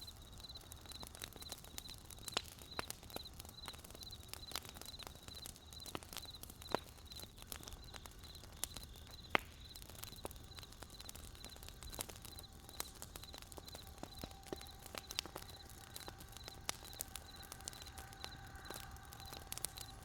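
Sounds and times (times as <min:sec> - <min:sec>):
campfire crackling and popping: 0:00.0 - 0:20.0
crickets chirping: 0:00.0 - 0:20.0.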